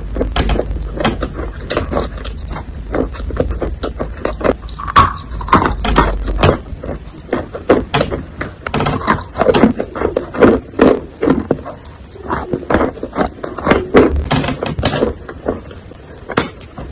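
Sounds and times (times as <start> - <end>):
wet chewing crunches: 0.0 - 16.7.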